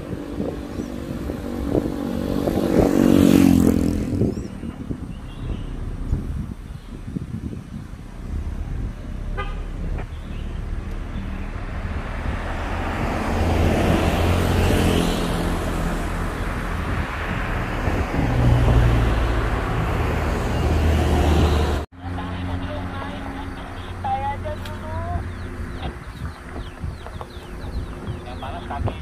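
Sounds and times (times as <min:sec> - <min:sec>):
car engine and tyre noise: 0:00.0 - 0:29.0.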